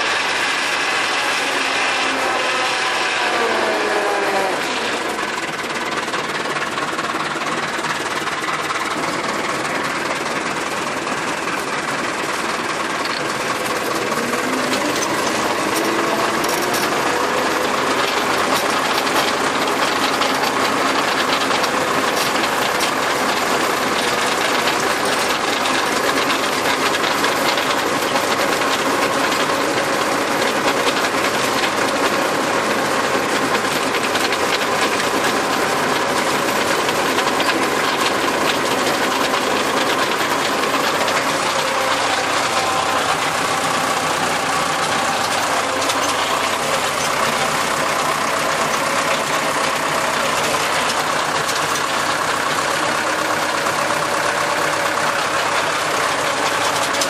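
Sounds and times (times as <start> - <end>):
rotary tiller clattering: 0.0 - 57.0
tractor engine under load: 0.0 - 57.0.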